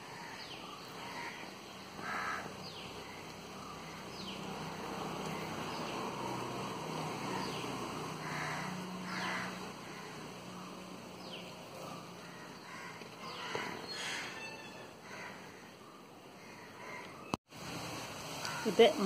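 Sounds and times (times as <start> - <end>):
birds chirping: 0.0 - 17.4
harsh bird calls: 0.0 - 17.4.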